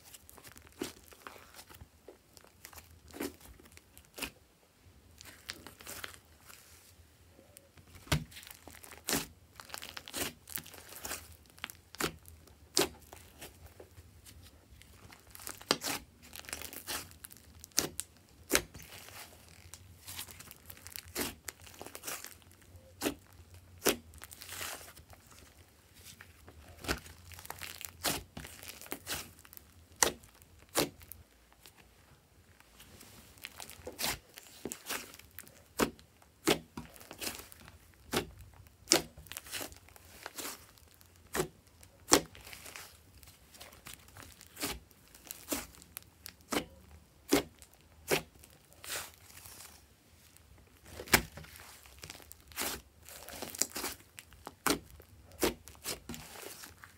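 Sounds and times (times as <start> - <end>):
slime squishing: 0.0 - 56.9.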